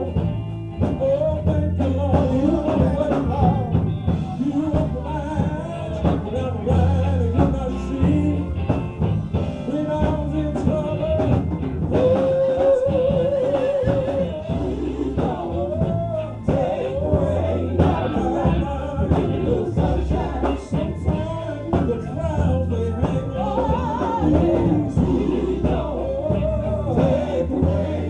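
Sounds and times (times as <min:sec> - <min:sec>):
band with bass and drums: 0:00.0 - 0:28.0
voices singing gospel: 0:00.0 - 0:28.0.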